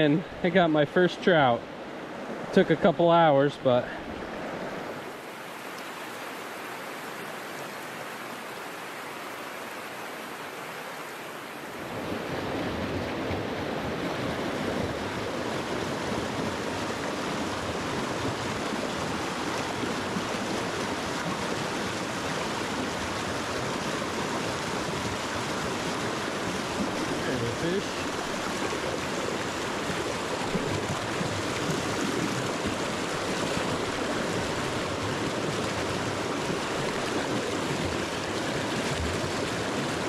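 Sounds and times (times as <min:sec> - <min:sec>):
water rushing over boulders: 0:00.0 - 0:40.0.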